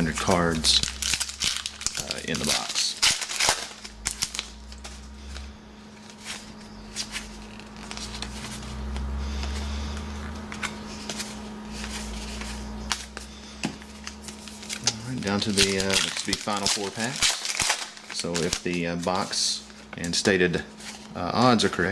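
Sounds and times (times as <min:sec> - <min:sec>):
cards being flipped through: 0:00.0 - 0:21.8
low steady hum: 0:00.0 - 0:21.9.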